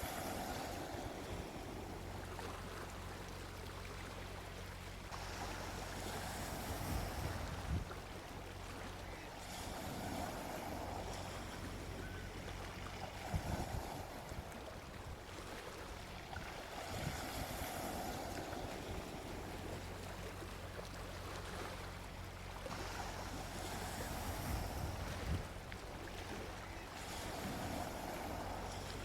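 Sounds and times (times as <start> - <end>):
sea waves washing onto beach: 0.0 - 29.0.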